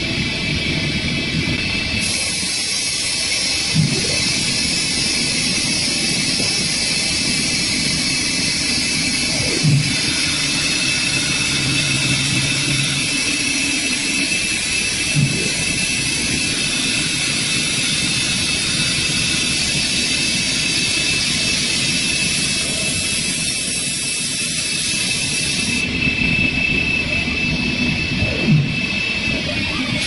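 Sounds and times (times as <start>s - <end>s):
wood lathe cutting with high whine: 2.0s - 30.0s.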